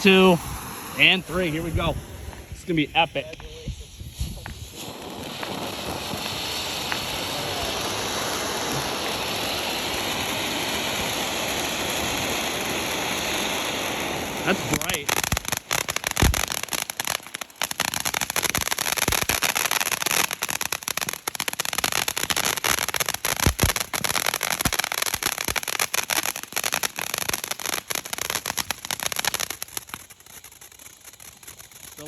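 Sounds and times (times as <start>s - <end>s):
firework fountains hissing and crackling: 0.0s - 32.0s
firework pops: 3.2s - 12.5s, 13.1s - 20.4s, 21.0s - 30.5s.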